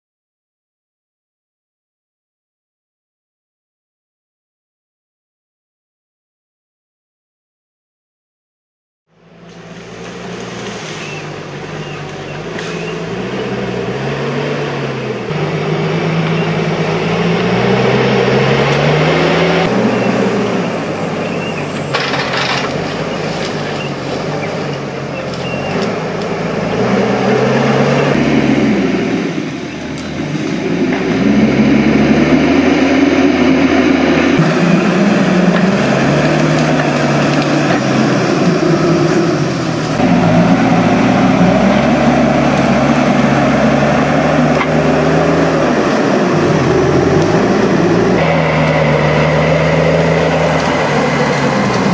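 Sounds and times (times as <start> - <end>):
diesel engine revving under load: 9.1 - 51.9.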